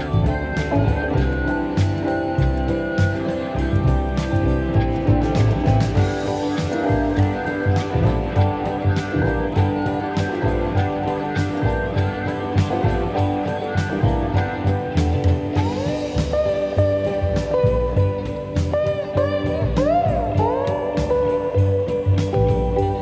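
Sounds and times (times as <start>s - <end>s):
blues guitar: 0.0s - 23.0s
steady drum beat: 0.0s - 23.0s.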